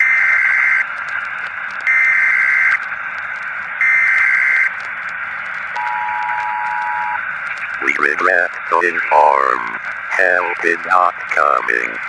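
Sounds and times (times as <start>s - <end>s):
static hiss: 1.8s - 12.0s.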